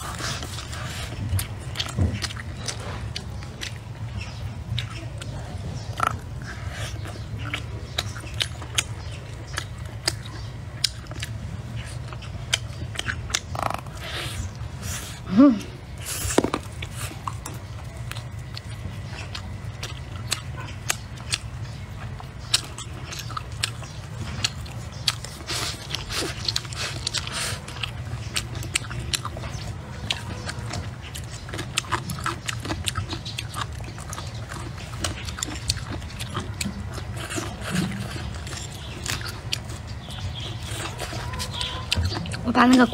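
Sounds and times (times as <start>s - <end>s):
low steady hum: 0.0s - 42.9s
person chewing and crunching: 0.0s - 42.9s.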